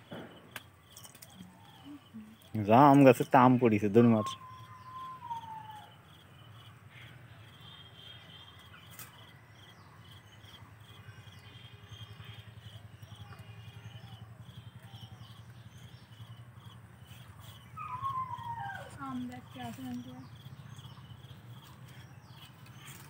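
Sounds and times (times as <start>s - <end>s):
insects chirping: 0.0s - 23.0s
steady low hum: 0.0s - 23.0s.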